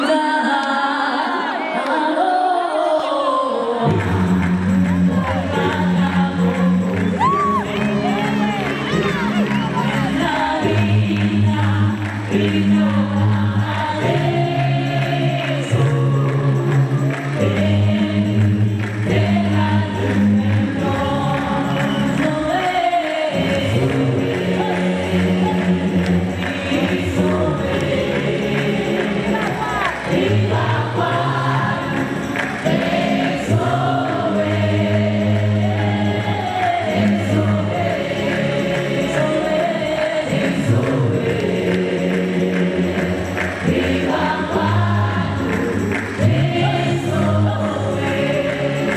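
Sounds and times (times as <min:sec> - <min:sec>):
gospel choir singing: 0:00.0 - 0:48.9.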